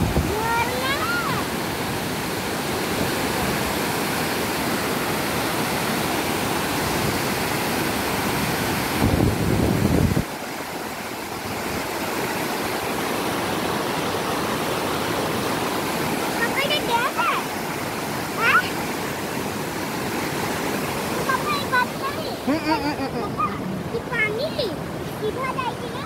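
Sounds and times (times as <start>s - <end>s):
water rushing down spillway: 0.0s - 26.0s.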